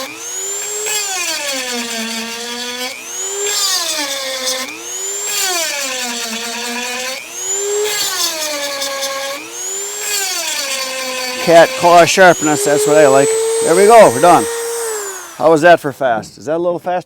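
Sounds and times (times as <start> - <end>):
rotary tool grinding chain teeth: 0.0 - 15.6.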